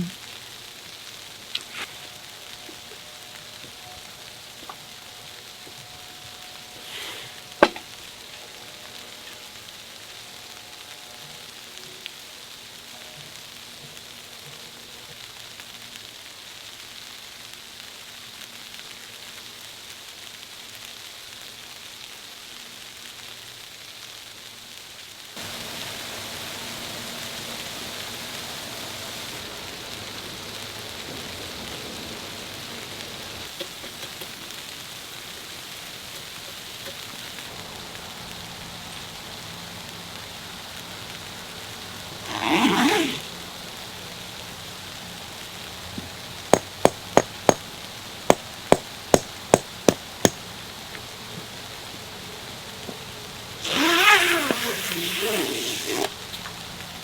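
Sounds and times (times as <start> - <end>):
hiss of falling snow: 0.0 - 57.0.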